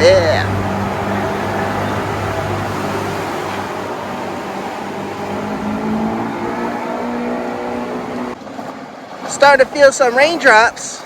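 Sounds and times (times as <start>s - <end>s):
motorboat engine drone: 0.0s - 11.0s
water rushing: 0.0s - 11.0s
wind: 0.0s - 11.0s.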